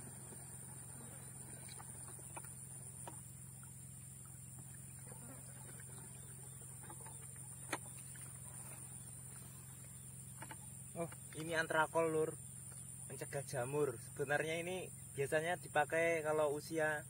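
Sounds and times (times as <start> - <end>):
high insect chorus: 0.0 - 17.0.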